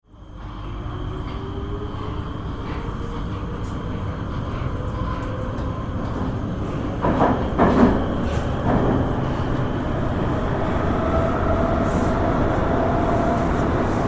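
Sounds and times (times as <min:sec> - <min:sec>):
subway train rumble: 0:00.0 - 0:14.0
wheels clattering over rails: 0:02.6 - 0:14.0.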